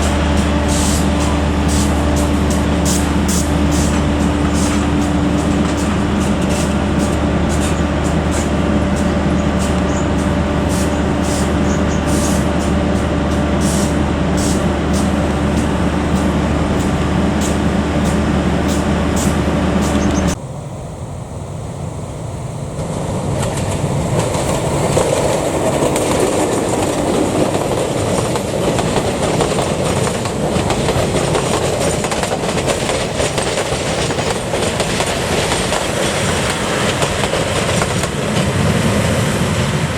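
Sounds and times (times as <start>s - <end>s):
train wheels clattering over rails: 0.0s - 20.4s, 22.8s - 39.9s
diesel locomotive idling: 0.0s - 39.9s.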